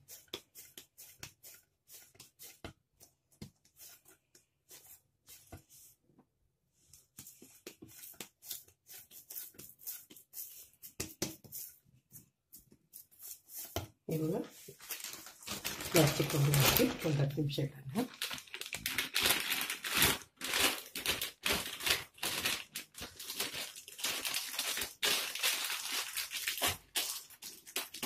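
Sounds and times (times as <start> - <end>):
hands kneading dough: 0.0 - 17.2, 18.3 - 28.0.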